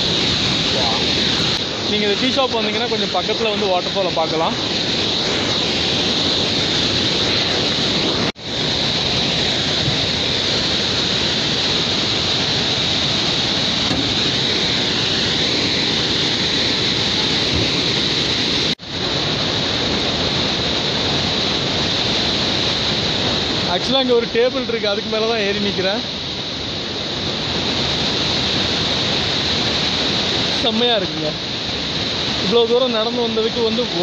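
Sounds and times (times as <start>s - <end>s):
waterfall rushing over rocks: 0.0s - 34.0s.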